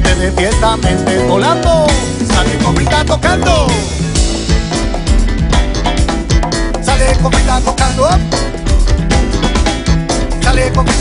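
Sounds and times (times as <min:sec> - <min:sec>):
drum kit: 0:00.0 - 0:11.0
electric bass: 0:00.0 - 0:11.0
hand drum: 0:00.0 - 0:11.0
keyboard: 0:00.0 - 0:11.0.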